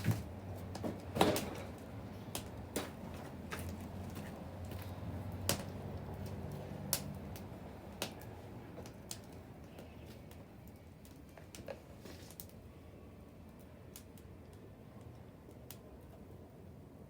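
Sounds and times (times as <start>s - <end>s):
bonfire crackling and popping: 0.0s - 12.6s, 13.4s - 16.3s.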